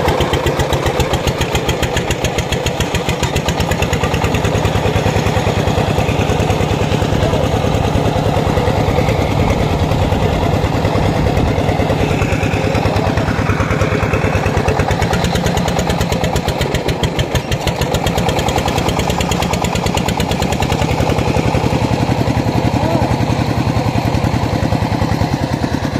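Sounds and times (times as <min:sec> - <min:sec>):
single-cylinder diesel engine running: 0:00.0 - 0:25.9.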